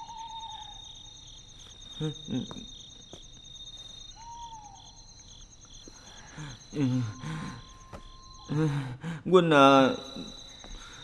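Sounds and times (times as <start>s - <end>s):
crickets chirping: 0.0s - 11.0s
night bird hooting: 0.0s - 11.0s.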